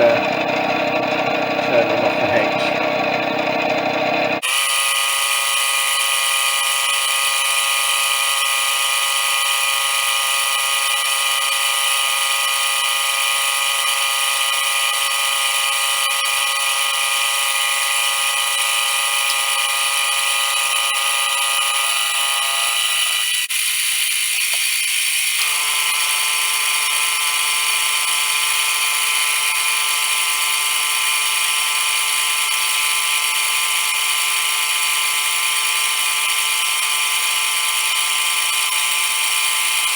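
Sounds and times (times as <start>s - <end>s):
metal lathe machining whine: 0.0s - 39.9s.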